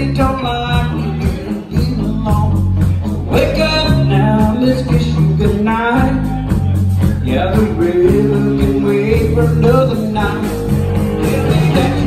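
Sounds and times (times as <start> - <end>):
bass guitar: 0.0 - 12.0
drum kit with cymbal beat: 0.0 - 12.0
electric guitars: 0.0 - 12.0.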